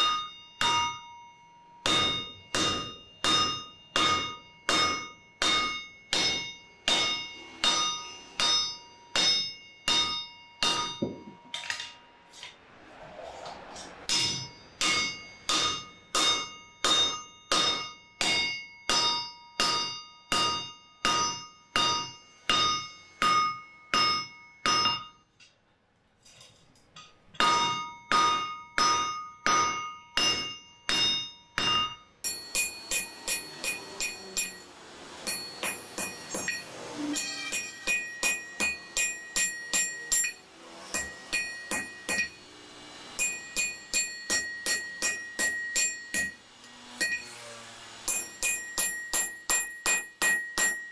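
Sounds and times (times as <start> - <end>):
hammer ringing on anvil: 0.0 - 12.0, 14.1 - 25.3, 27.4 - 47.4, 48.0 - 50.9.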